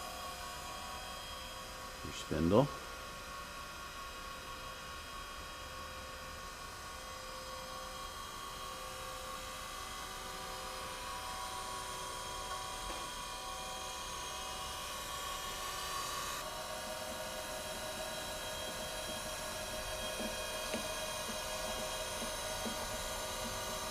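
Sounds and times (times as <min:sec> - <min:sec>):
grinder motor whine: 0:00.0 - 0:23.9.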